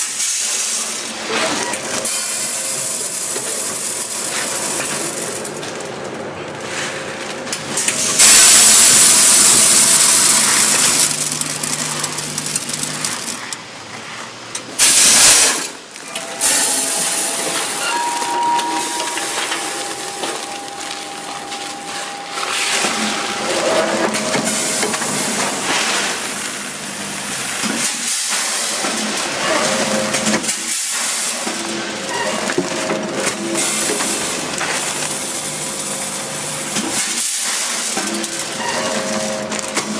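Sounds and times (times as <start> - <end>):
packing machine running: 0.0 - 39.9.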